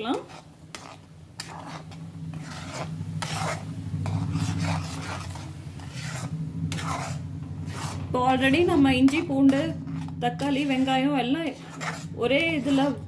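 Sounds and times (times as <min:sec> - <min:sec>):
low steady hum: 0:00.0 - 0:13.0
metal ladle scraping pot: 0:00.0 - 0:13.0.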